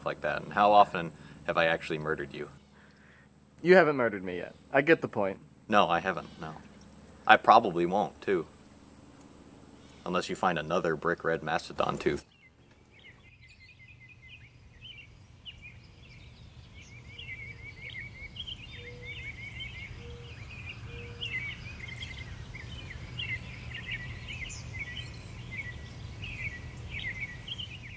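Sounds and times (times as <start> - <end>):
birds chirping and singing: 0.0 - 5.1, 5.7 - 27.9.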